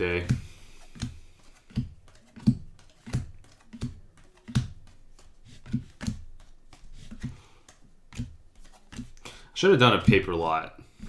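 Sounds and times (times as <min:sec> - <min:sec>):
cards tapping on a table: 0:00.3 - 0:09.2.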